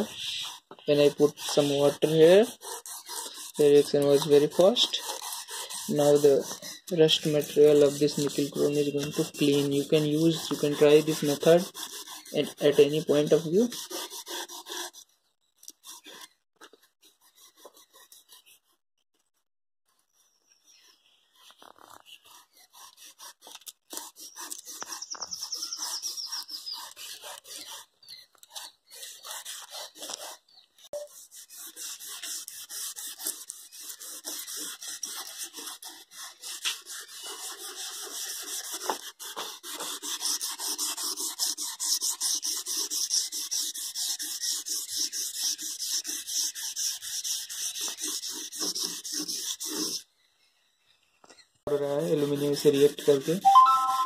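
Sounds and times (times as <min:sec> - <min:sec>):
foil rasping on metal: 0:00.0 - 0:15.1, 0:20.8 - 0:30.5, 0:31.1 - 0:50.0, 0:51.7 - 0:53.4.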